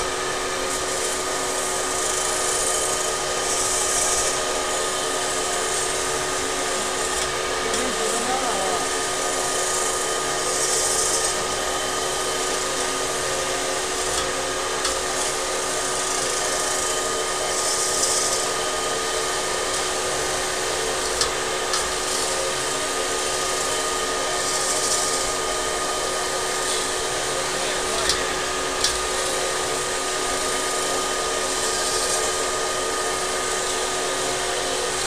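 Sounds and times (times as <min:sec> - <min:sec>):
metal-spinning machine hum and whine: 0:00.0 - 0:35.0.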